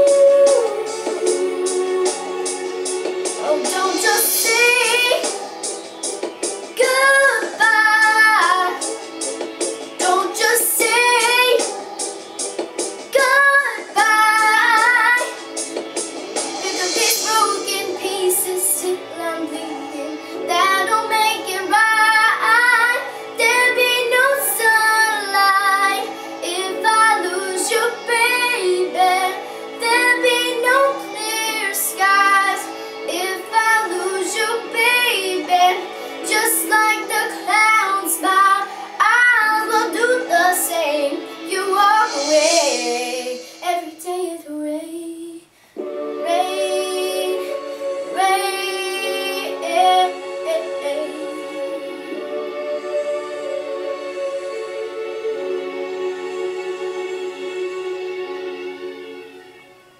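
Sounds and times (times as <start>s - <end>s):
backing track: 0.0s - 44.6s, 45.8s - 59.9s
girl singing pop ballad: 0.0s - 53.8s.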